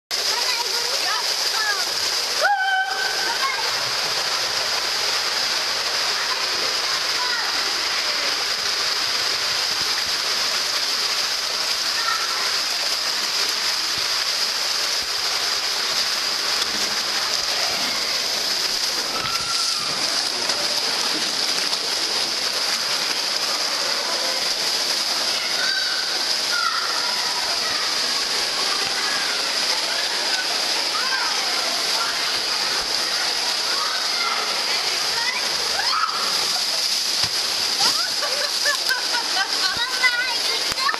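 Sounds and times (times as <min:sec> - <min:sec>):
water rushing down slide: 0:00.1 - 0:40.9.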